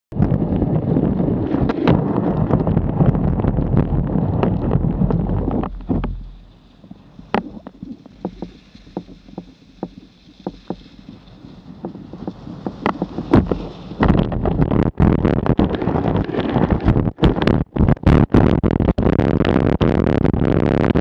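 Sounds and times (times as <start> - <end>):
skis rushing over snow: 0.2 - 19.0.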